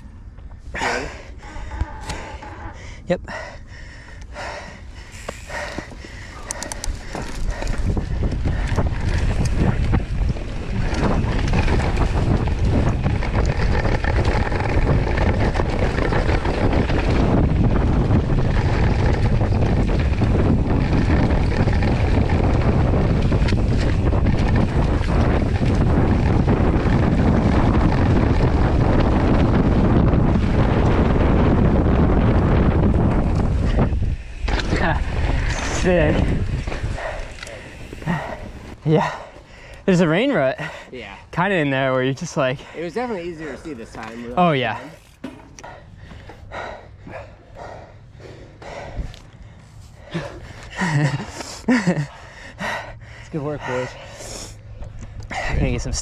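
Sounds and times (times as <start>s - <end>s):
bike tyres rolling: 0.0s - 56.0s
wind buffeting microphone: 0.0s - 56.0s
bike rattling over bumps: 4.4s - 56.0s.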